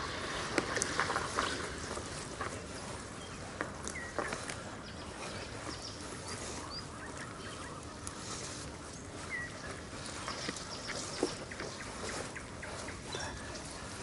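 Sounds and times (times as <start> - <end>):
oars knocking: 0.0 - 14.0.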